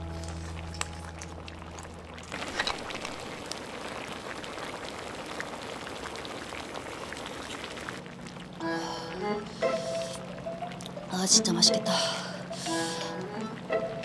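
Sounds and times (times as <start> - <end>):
stew bubbling at a simmer: 0.0 - 14.0.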